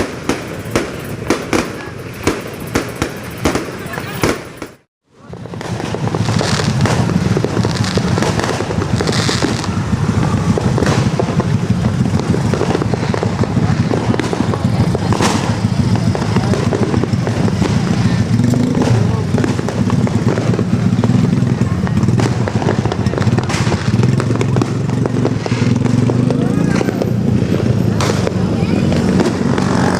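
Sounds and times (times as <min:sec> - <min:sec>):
fireworks popping and banging: 0:00.0 - 0:29.9.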